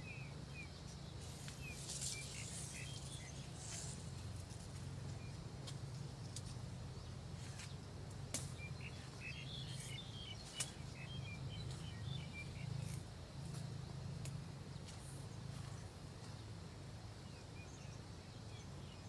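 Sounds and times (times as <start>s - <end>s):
bird chirping: 0.0s - 19.0s
steady low hum: 0.0s - 19.0s.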